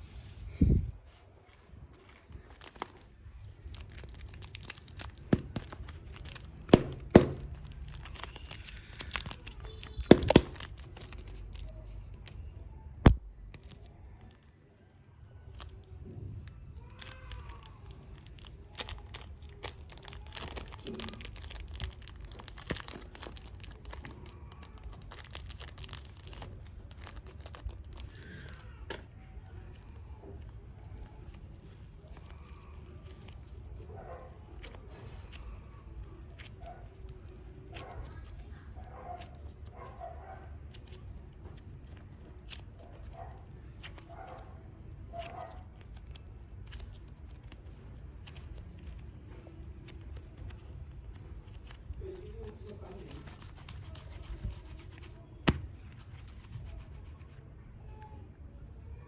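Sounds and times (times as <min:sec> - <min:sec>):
packaging tearing and crinkling: 0:01.8 - 0:12.4, 0:13.1 - 0:29.8, 0:30.4 - 0:38.5, 0:40.7 - 0:57.3.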